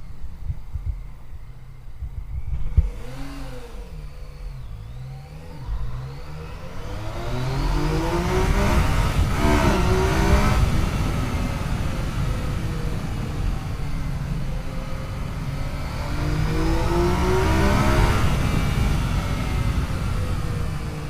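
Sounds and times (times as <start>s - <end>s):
low wind noise: 0.0s - 21.0s
motorcycle engine accelerating: 0.0s - 21.0s.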